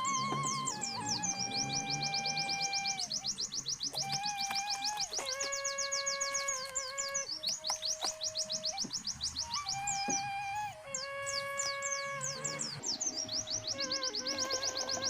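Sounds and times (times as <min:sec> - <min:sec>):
songbird trilling: 0:00.0 - 0:15.0.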